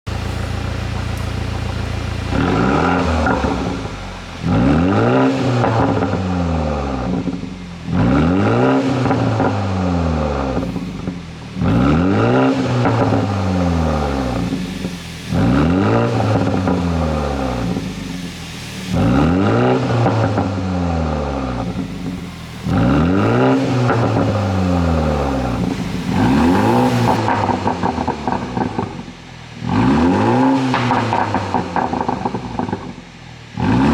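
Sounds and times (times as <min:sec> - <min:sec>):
car engine idling and revving: 0:00.0 - 0:33.9
exhaust crackles and pops: 0:00.0 - 0:33.9.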